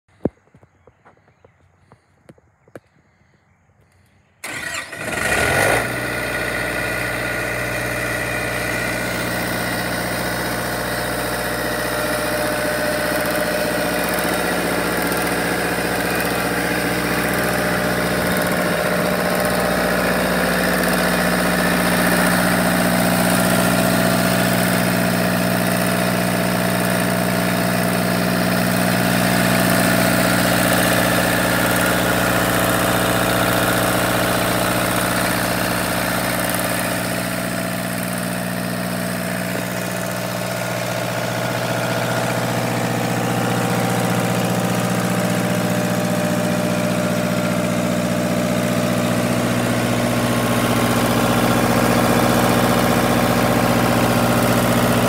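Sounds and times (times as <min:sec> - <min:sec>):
diesel generator starting and running: 0:00.1 - 0:55.0.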